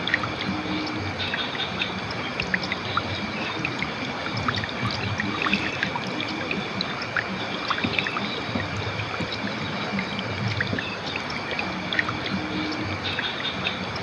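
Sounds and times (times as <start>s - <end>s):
river water rushing: 0.0s - 14.0s
water splashes and trickles: 0.0s - 14.0s.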